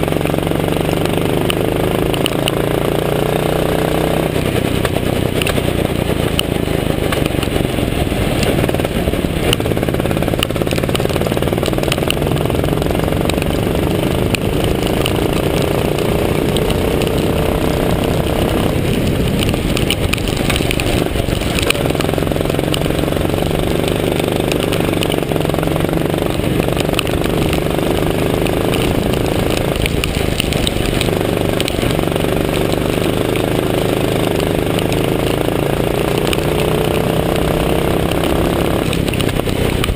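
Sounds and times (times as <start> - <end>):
go-kart engine running hard: 0.0 - 39.9
wind noise on microphone: 1.8 - 34.1, 35.1 - 39.9.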